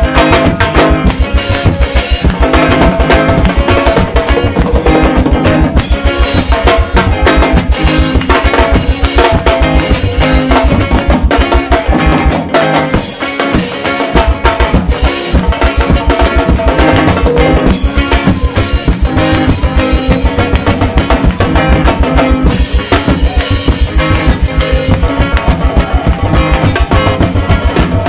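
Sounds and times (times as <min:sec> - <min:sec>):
drum kit and bass beat: 0:00.0 - 0:28.0
gospel band music: 0:00.0 - 0:28.0.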